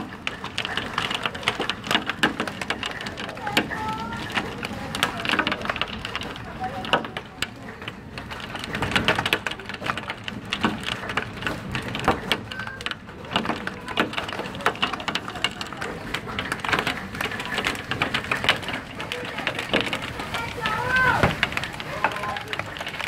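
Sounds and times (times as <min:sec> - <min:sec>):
hailstones clattering: 0:00.0 - 0:23.0
hiss of falling ice and rain: 0:00.0 - 0:23.0.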